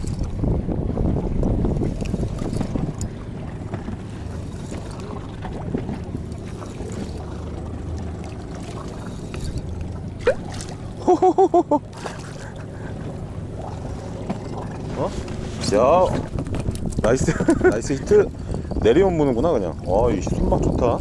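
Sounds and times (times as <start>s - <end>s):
small boat engine rumble: 0.0s - 21.0s
water: 0.0s - 21.0s
wind: 0.0s - 21.0s.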